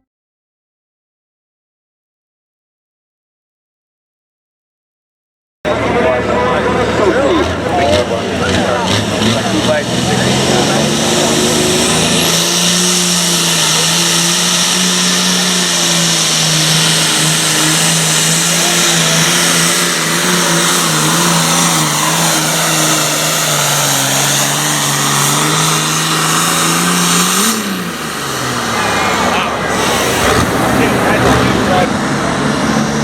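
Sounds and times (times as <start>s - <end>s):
tractor diesel engine under load: 5.7s - 33.0s.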